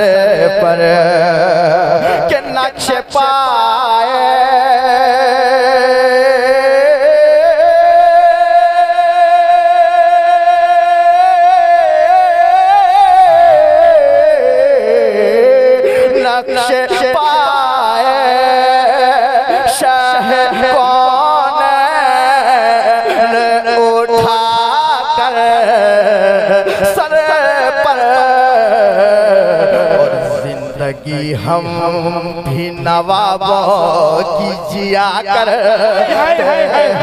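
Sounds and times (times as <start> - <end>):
man singing solo: 0.0 - 37.0.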